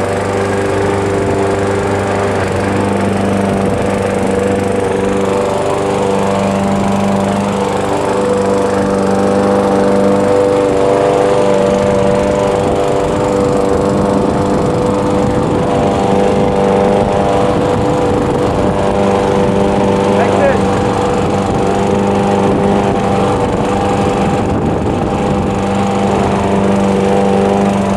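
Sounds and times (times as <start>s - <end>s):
lawn mower running: 0.0s - 27.9s.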